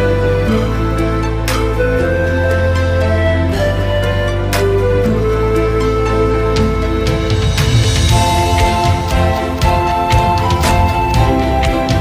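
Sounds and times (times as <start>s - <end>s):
background music with pulsing bass: 0.0s - 12.0s.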